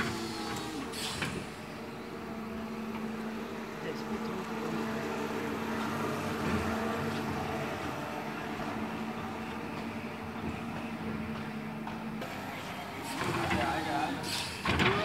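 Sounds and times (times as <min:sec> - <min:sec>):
electric lift truck humming: 0:00.0 - 0:15.0.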